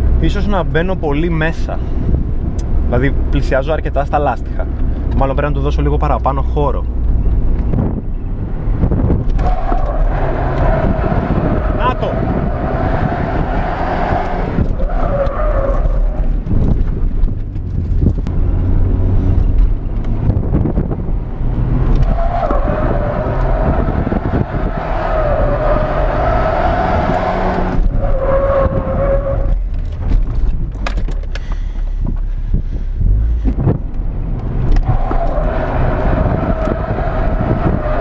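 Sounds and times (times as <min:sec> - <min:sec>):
car engine running hard: 0:07.2 - 0:38.0.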